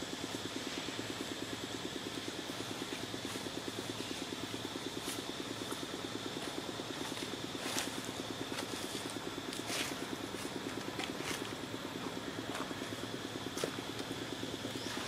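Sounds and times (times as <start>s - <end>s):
faint high hum: 0.0s - 15.0s
small engine idling: 0.0s - 15.0s.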